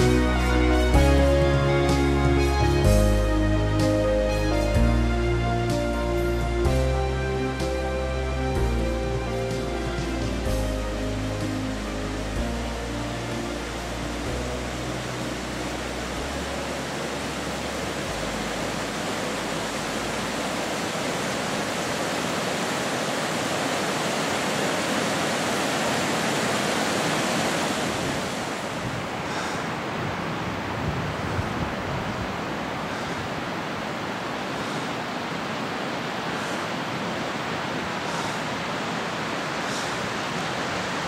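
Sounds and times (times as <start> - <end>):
river rushing roar: 0.0 - 41.0.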